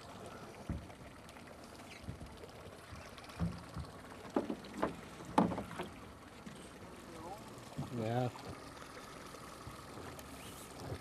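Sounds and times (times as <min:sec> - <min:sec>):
water lapping against boat: 0:00.0 - 0:11.0.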